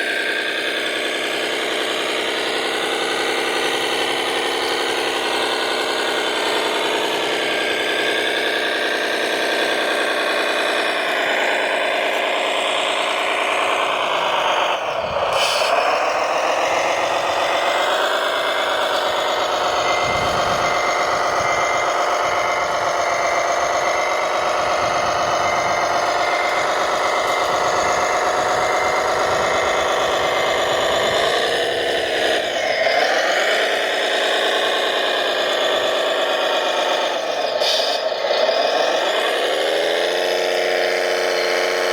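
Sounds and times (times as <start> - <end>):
motor whining: 0.0 - 41.9.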